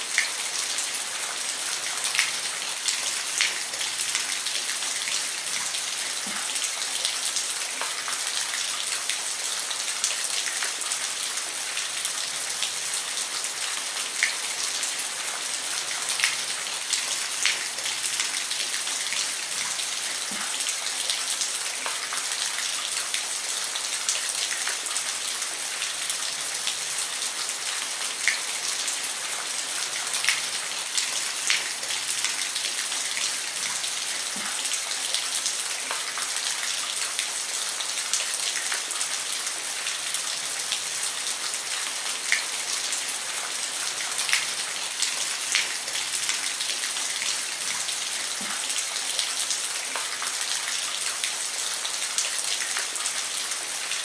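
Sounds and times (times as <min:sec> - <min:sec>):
rain hissing on a roof: 0:00.0 - 0:54.0.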